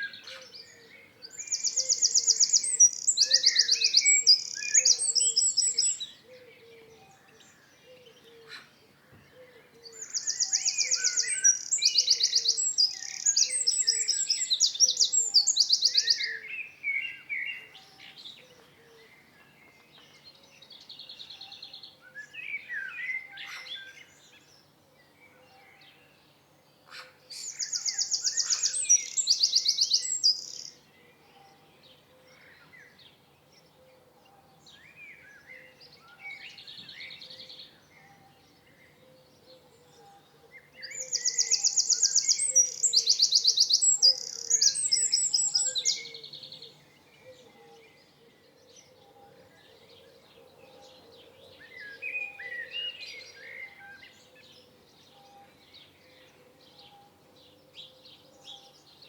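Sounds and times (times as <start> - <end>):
bird chirps and warbles: 0.0 - 59.0
songbirds trilling: 0.0 - 59.0.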